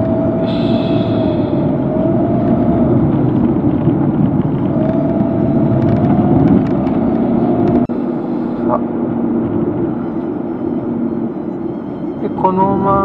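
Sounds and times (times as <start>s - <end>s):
car interior engine and road noise: 0.0s - 13.0s.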